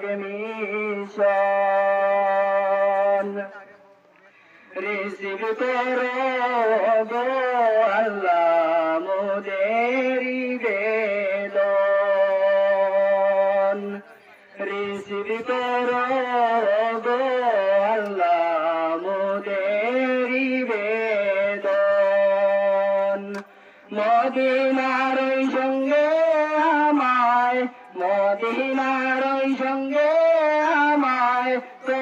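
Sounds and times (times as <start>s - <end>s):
man singing unaccompanied: 0.0s - 3.8s, 4.7s - 32.0s.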